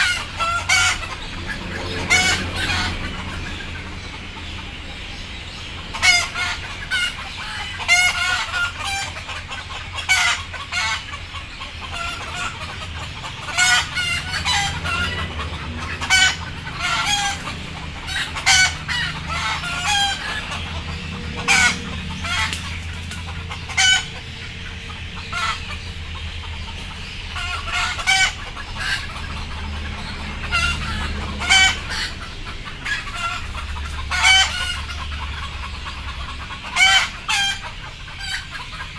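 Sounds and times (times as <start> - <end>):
chickens clucking and squawking: 0.0 - 38.9.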